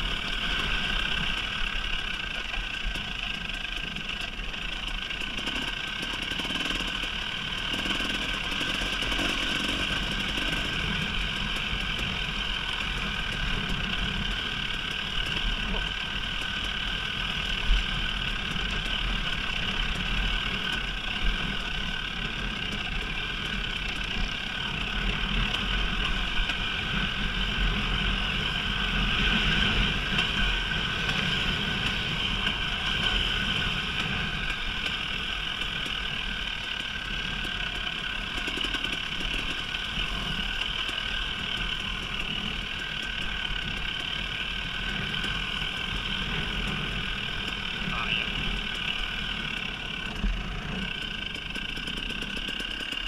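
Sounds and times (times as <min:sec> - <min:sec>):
dirt bike engine running: 0:00.0 - 0:53.0.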